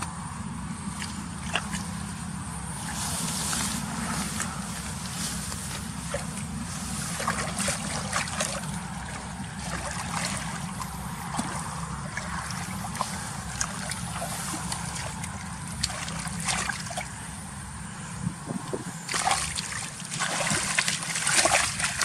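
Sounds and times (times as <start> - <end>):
steady low rumble: 0.0 - 22.0
water splashing and trickling: 0.8 - 22.0.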